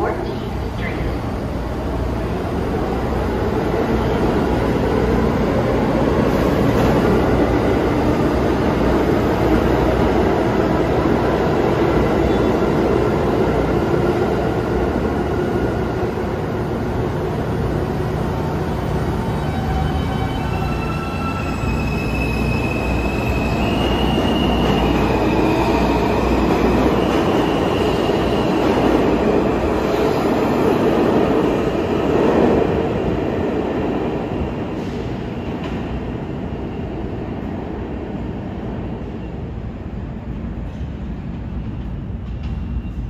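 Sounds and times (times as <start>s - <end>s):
subway train rumbling: 0.0s - 43.0s.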